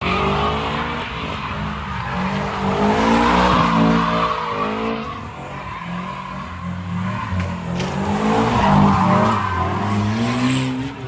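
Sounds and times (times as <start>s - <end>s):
car engine revving: 0.0s - 11.0s
tires squealing on pavement: 0.0s - 11.0s.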